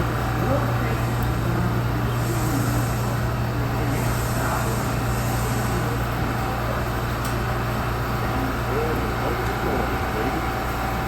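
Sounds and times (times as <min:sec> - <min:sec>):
constant low hum: 0:00.0 - 0:11.0
train wheels rumbling on rail: 0:00.0 - 0:11.0.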